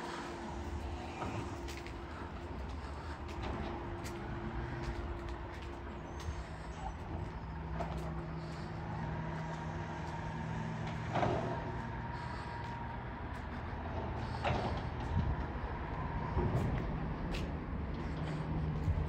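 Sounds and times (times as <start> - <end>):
diesel truck engine hum: 0.0 - 19.0.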